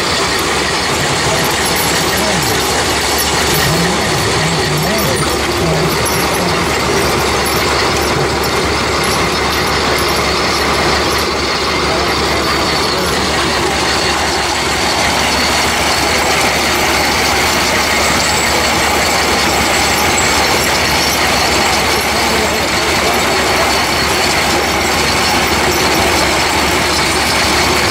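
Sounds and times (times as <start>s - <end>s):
feed grinder clattering and grinding: 0.0s - 27.9s.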